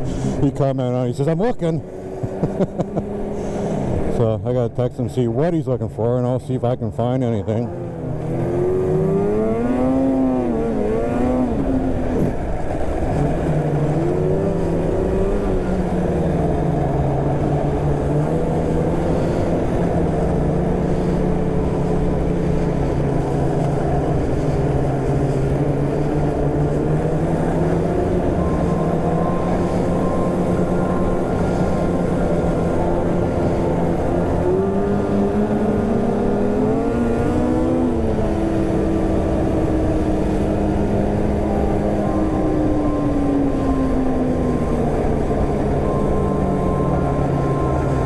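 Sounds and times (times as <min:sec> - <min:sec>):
snowmobile engine running: 0:00.0 - 0:48.0.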